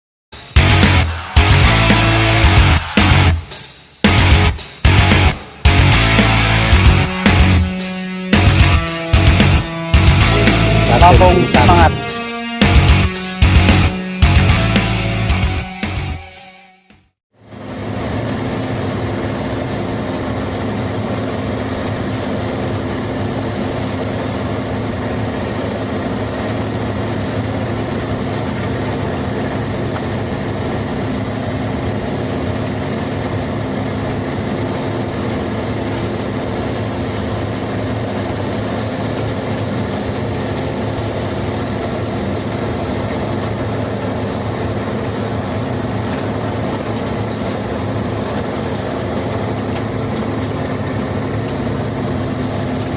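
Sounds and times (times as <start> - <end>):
excavator diesel engine running: 0.4 - 16.6, 17.4 - 52.9.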